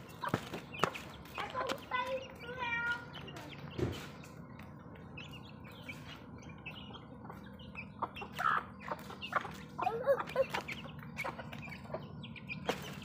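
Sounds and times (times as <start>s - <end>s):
chicks peeping: 0.0s - 13.0s
hens clucking: 0.0s - 13.0s.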